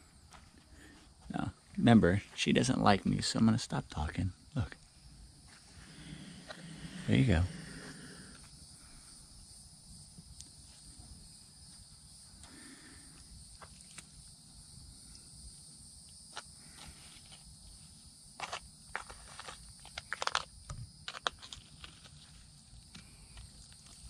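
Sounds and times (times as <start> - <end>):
faint insect hum: 0.0 - 24.0.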